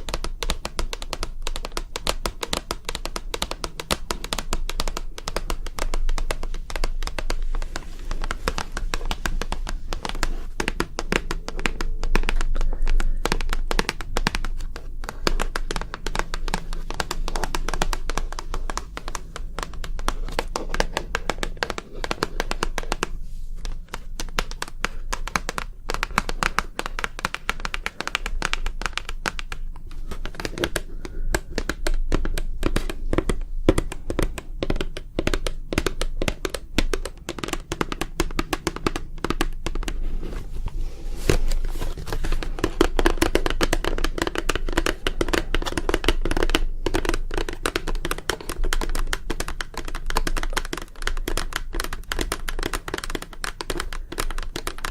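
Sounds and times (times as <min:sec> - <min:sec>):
rapid light tapping: 0:00.0 - 0:54.9.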